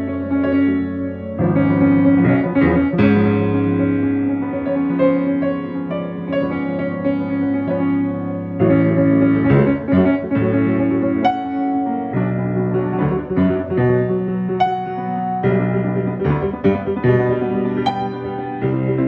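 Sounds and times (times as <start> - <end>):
high piano notes: 0.0 - 19.0
piano chords: 0.0 - 19.0.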